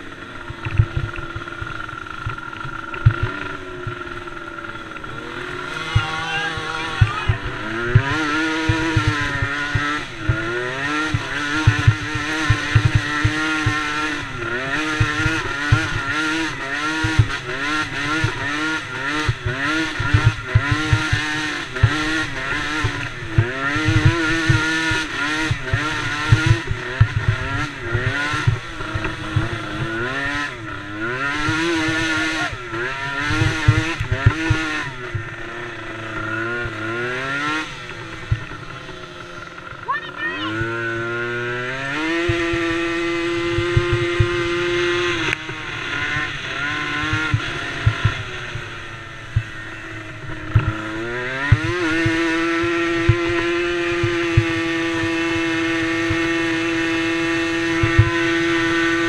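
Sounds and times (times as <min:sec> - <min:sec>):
atv engines revving: 0:00.0 - 0:59.0.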